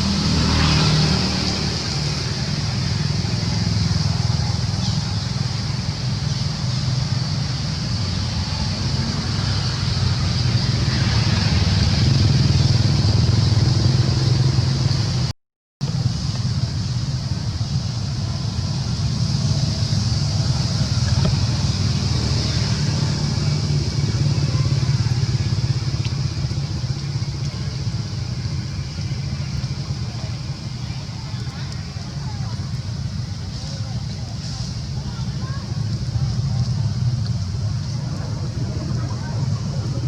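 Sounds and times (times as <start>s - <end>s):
continuous low rumble: 0.0s - 40.0s.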